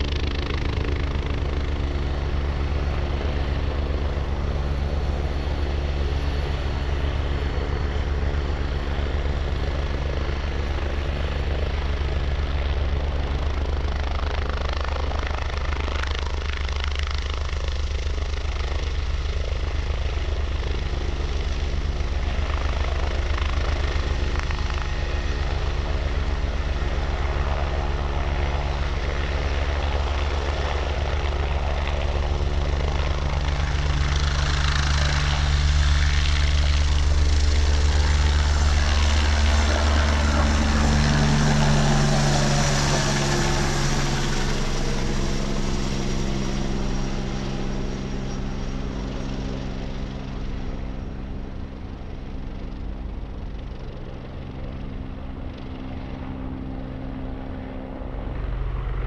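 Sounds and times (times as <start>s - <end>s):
helicopter engine: 0.0s - 59.0s
helicopter rotor beating: 0.0s - 59.0s.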